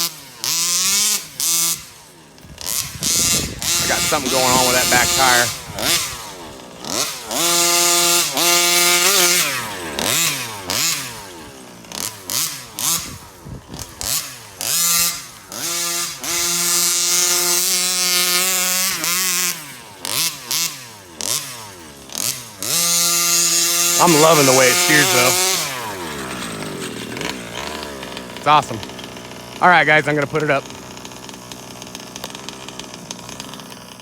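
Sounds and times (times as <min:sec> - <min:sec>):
two-stroke engine revving: 0:00.0 - 0:34.0.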